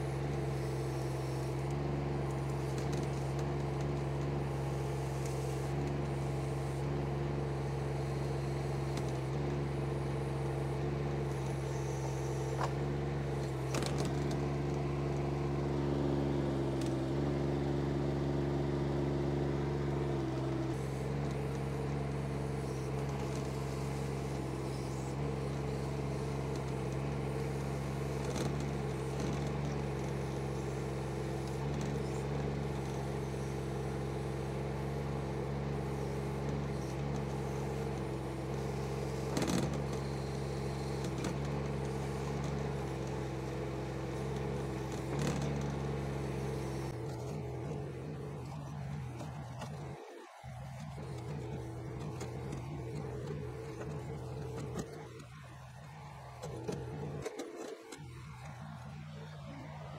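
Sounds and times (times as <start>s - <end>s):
small excavator engine running: 0.0s - 59.9s.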